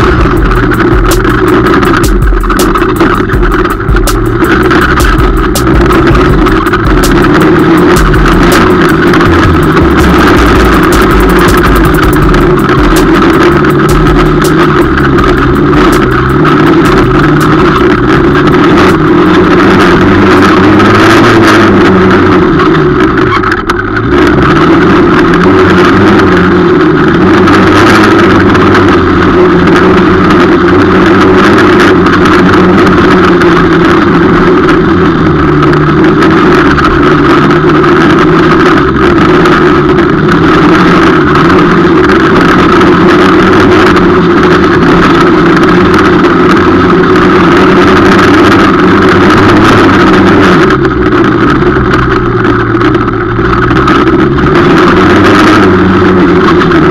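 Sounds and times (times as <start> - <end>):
quad engine revving: 0.0 - 56.9.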